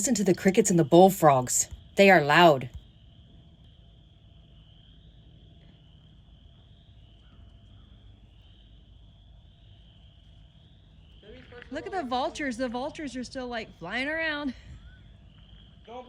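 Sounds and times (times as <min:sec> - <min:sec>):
crickets and frogs trilling: 0:00.0 - 0:16.0.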